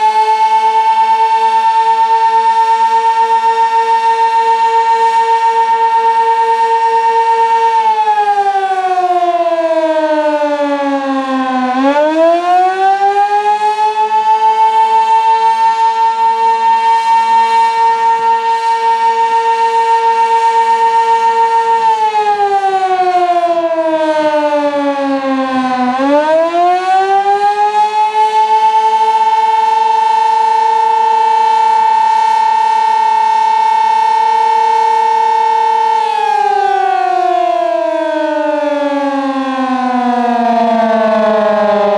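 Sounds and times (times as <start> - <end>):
outdoor warning siren: 0.0 - 41.9.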